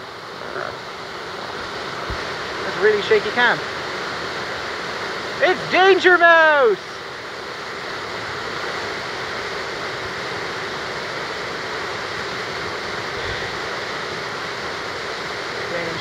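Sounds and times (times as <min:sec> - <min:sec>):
whitewater rushing over rocks: 0:00.0 - 0:16.0.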